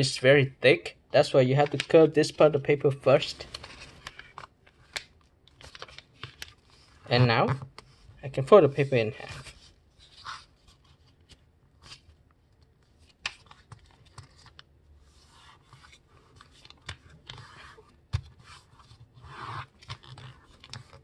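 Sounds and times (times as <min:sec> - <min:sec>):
paper crinkling and creasing: 0:01.6 - 0:02.6, 0:03.2 - 0:21.0.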